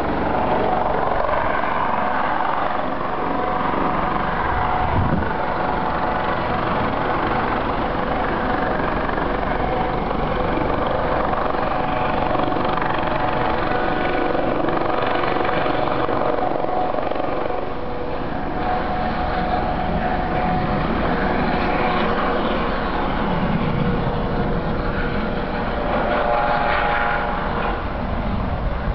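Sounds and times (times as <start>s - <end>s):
helicopter hovering: 0.0s - 28.9s.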